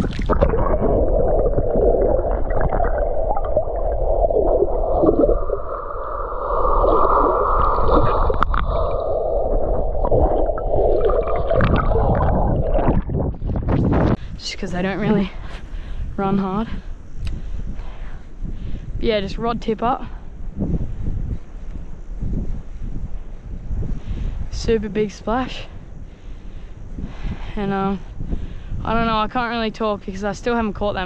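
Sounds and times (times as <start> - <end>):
muffled water gurgling and sloshing: 0.0 - 31.0.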